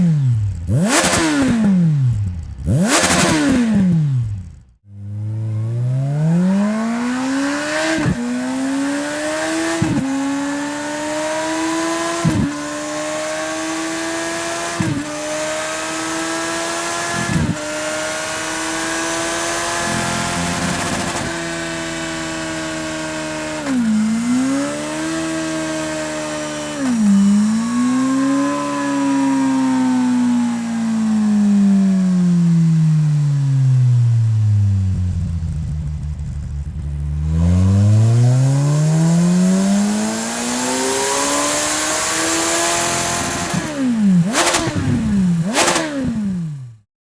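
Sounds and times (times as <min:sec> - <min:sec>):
motorcycle engine revving under load: 0:00.0 - 0:46.9.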